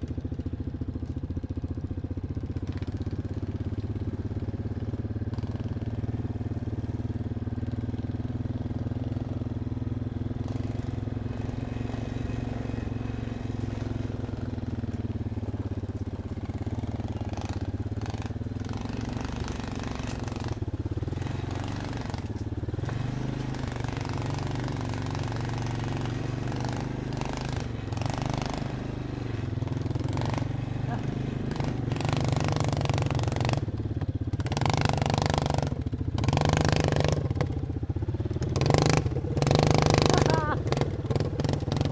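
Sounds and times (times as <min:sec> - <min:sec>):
vehicle engine at low revs: 0:00.0 - 0:41.9.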